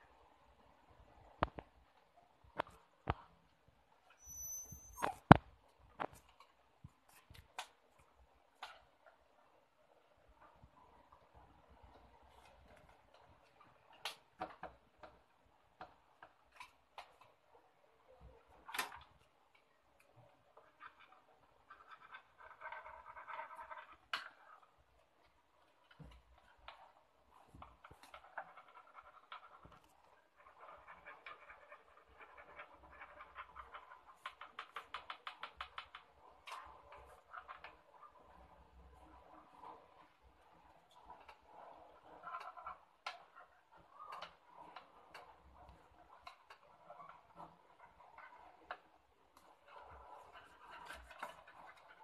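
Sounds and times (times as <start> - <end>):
faint clicks and taps: 1.0 - 3.7, 5.0 - 9.6, 10.2 - 52.0.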